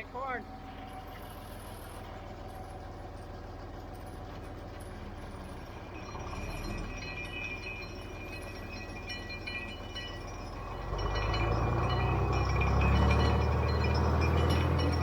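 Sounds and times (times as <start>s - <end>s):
tractor engine running: 0.0s - 15.0s
grinder clinking and ringing: 0.4s - 15.0s.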